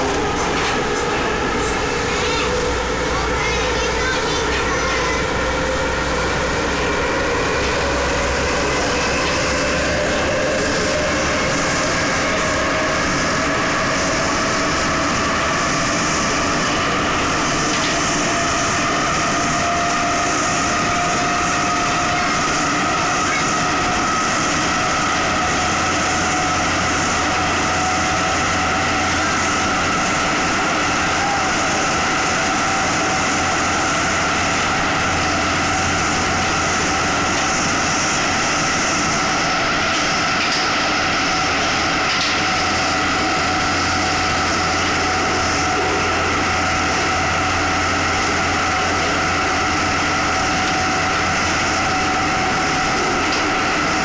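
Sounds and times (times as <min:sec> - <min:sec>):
metro train rumble and whine: 0:00.0 - 0:54.0.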